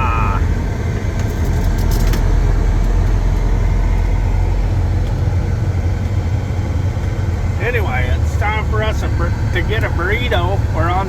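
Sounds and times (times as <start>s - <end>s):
truck engine drone: 0.0s - 11.0s.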